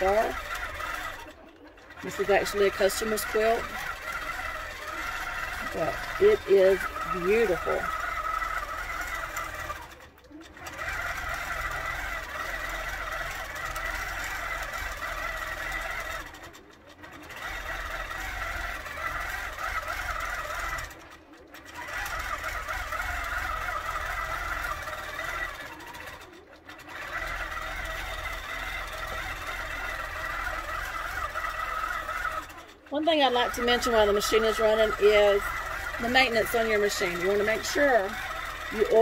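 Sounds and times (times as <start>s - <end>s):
quilting machine whirring: 0.0s - 39.0s.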